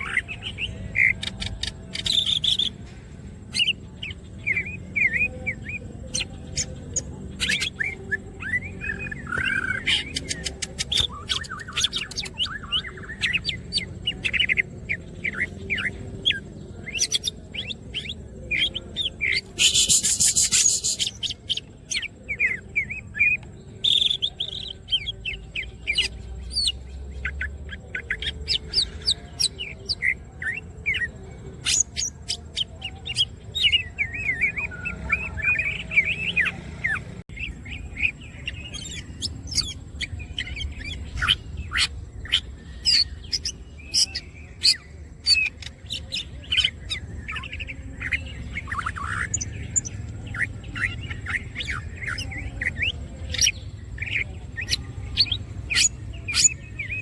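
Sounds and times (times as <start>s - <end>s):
bird singing chirps and whistles: 0.0s - 2.8s, 3.4s - 57.0s.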